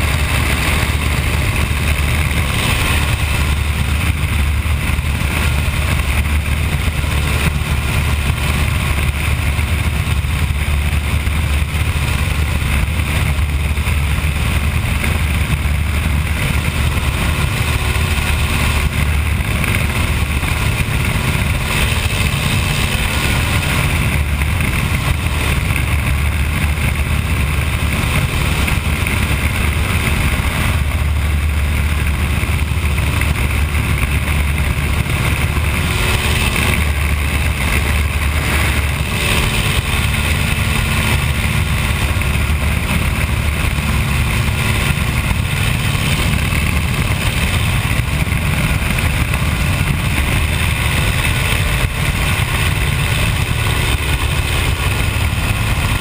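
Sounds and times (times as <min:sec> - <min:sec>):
biplane engine and propeller: 0:00.0 - 0:56.0
wind rushing over cockpit: 0:00.0 - 0:56.0.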